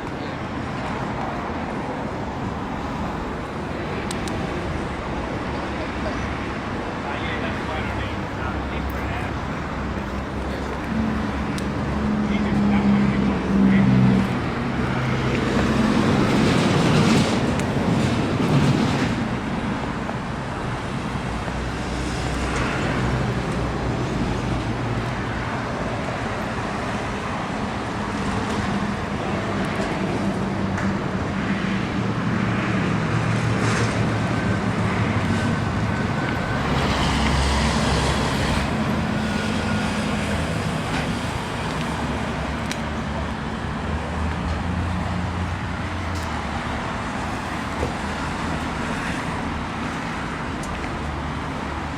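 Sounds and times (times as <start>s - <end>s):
road traffic noise: 0.0s - 51.9s
vehicle engine: 8.9s - 51.9s.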